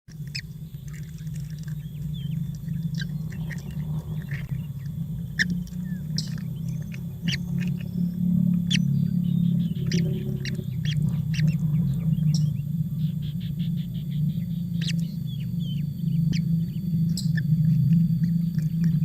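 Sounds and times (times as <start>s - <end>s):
steady low hum: 0.0s - 19.0s
baby birds chirping: 0.1s - 19.0s.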